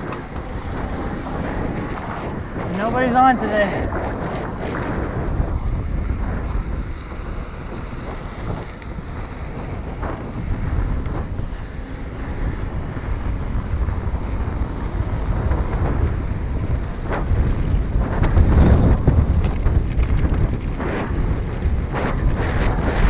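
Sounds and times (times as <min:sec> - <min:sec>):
bike clicks and rattles: 0:00.0 - 0:23.0
bike tyres rumbling: 0:00.0 - 0:23.0
wind buffeting microphone: 0:00.0 - 0:23.0.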